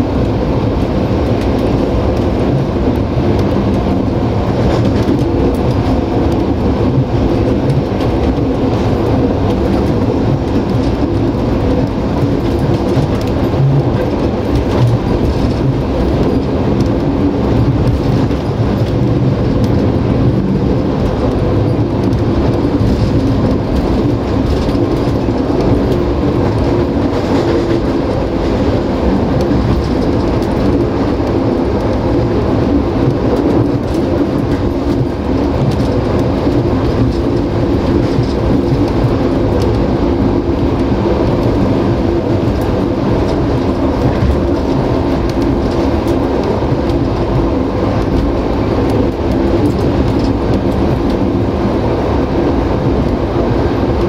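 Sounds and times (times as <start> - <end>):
constant hum: 0.0 - 54.0
train wheels rumbling on rails: 0.0 - 54.0.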